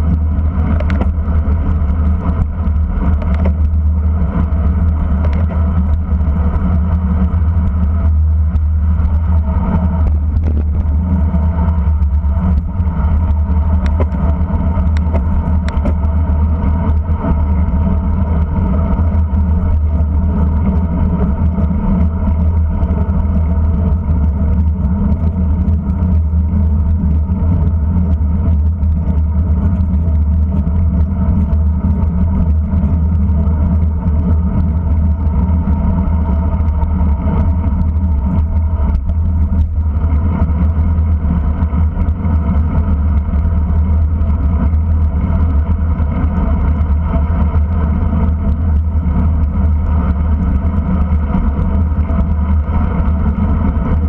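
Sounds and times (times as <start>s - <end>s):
constant hum: 0.0s - 54.0s
road rumble: 0.0s - 54.0s.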